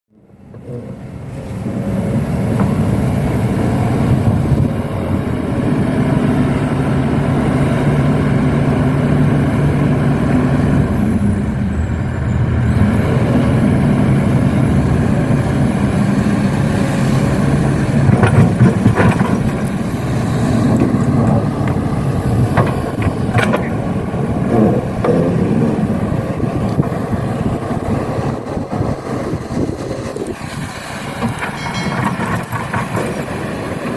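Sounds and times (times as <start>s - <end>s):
truck engine droning: 0.1s - 33.9s.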